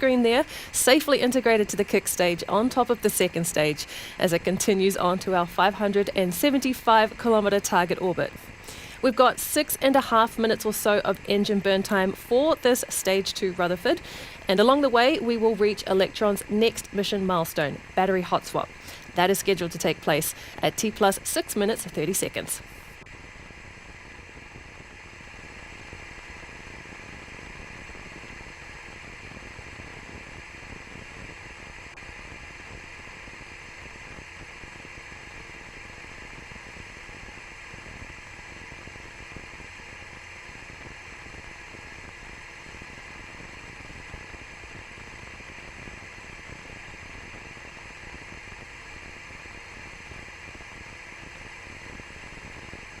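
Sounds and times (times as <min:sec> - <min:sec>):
static hiss: 0:00.0 - 0:53.0.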